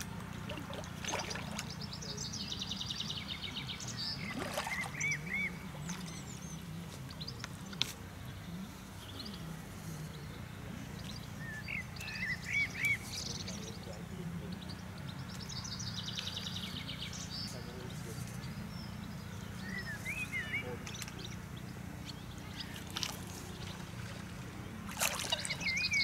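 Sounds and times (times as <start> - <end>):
small birds whistling: 0.9 - 7.8, 11.0 - 26.0.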